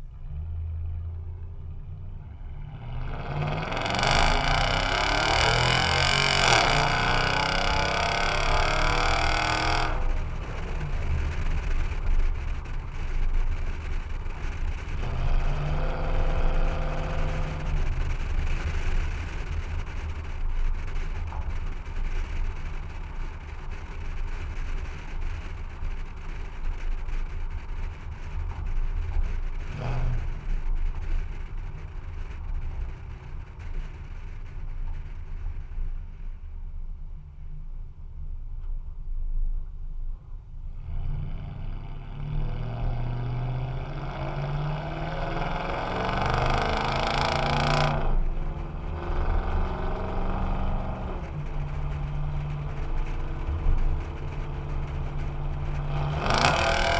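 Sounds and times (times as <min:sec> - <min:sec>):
truck engine accelerating: 0:00.0 - 0:36.2, 0:40.8 - 0:56.9.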